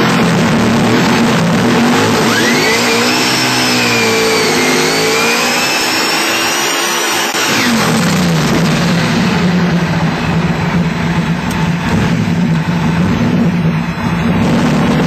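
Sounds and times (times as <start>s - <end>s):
car engine running loud: 0.0s - 15.0s
high whine: 0.0s - 15.0s.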